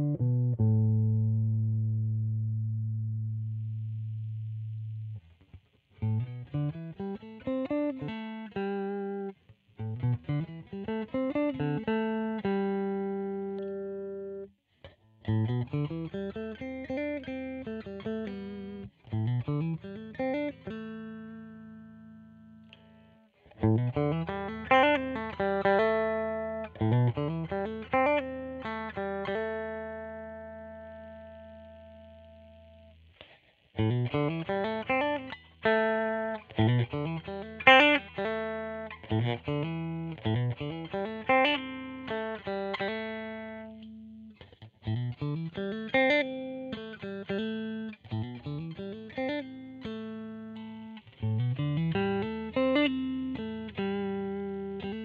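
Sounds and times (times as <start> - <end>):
electric guitar picked notes: 0.0 - 55.0.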